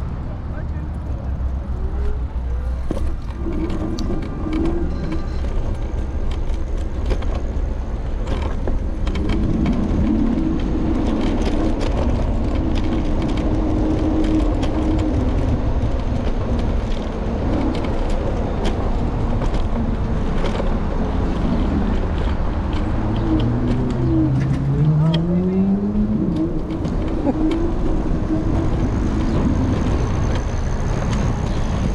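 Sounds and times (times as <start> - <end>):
road rumble: 0.0 - 31.9
wind: 0.0 - 31.9.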